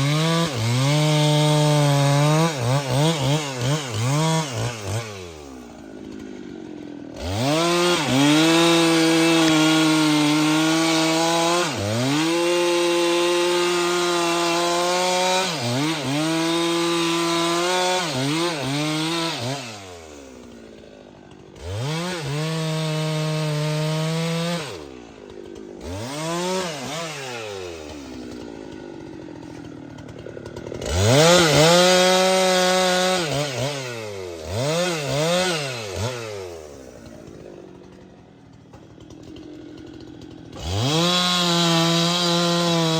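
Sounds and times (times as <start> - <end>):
chainsaw revving and cutting: 0.0 - 42.9.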